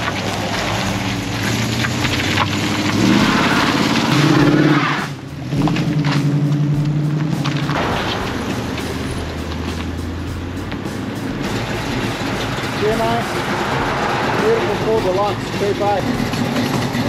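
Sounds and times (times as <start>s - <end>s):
car engines pulling away: 0.0s - 17.0s.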